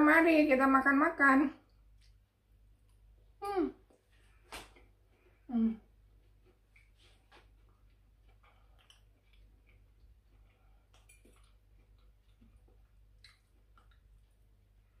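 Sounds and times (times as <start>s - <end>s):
faint chewing: 1.6s - 15.0s.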